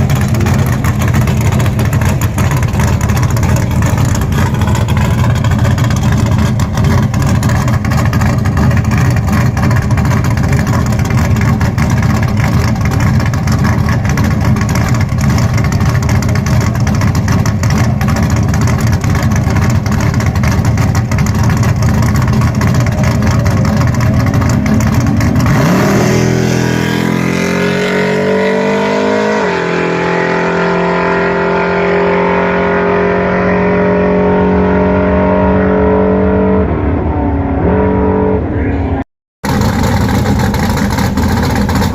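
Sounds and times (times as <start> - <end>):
car engine running rough: 0.0 - 41.9.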